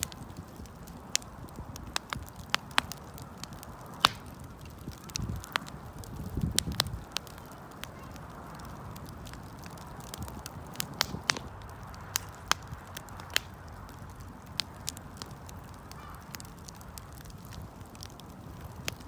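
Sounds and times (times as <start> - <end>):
campfire flames hissing: 0.0 - 19.0
fire crackles and pops: 0.0 - 19.0.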